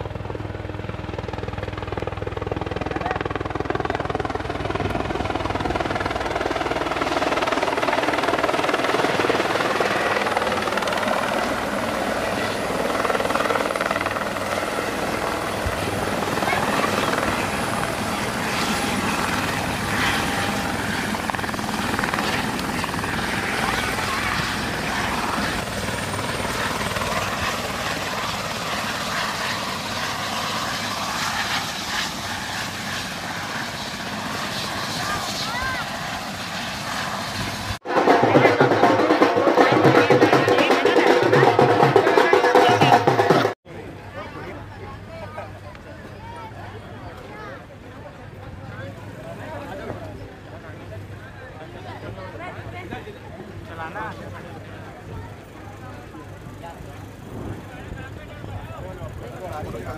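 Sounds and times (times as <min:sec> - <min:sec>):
helicopter rotor and turbine: 0:00.0 - 0:45.8, 0:47.7 - 0:59.9.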